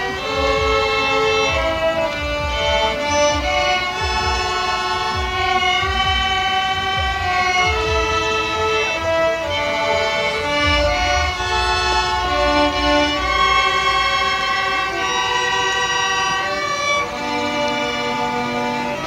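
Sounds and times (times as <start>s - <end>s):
low rumble: 0.0s - 16.9s
violins playing a melody: 0.0s - 19.0s.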